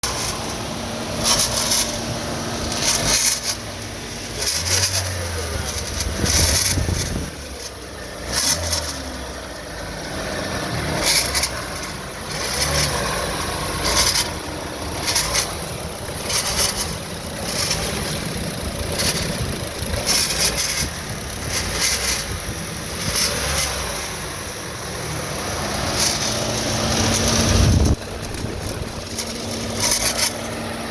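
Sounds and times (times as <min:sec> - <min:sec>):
engine with turbo rattle: 0:00.0 - 0:30.9
steady engine hum: 0:00.0 - 0:30.9.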